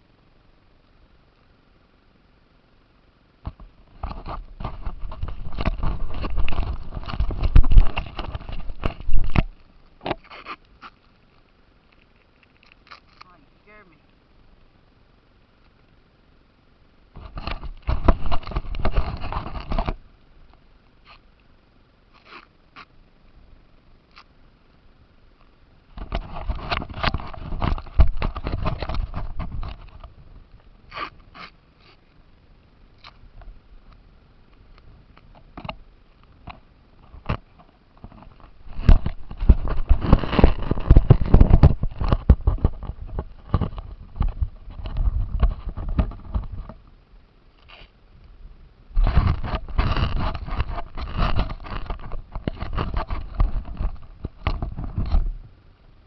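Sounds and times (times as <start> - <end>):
faint steady motor whine: 0.0 - 56.0.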